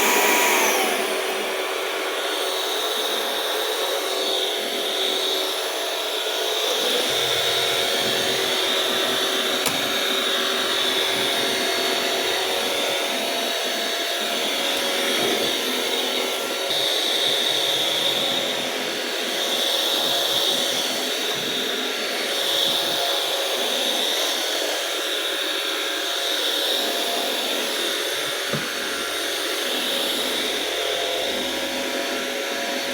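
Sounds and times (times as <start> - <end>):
vacuum cleaner motor whining: 0.0 - 32.9.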